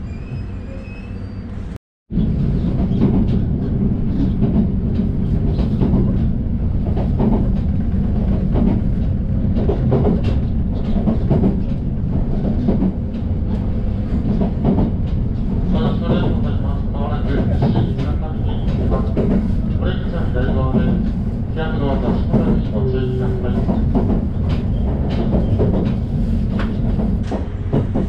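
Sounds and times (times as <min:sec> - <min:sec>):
train wheels rumbling: 0:00.0 - 0:28.0
rail joint clacks: 0:02.1 - 0:28.0.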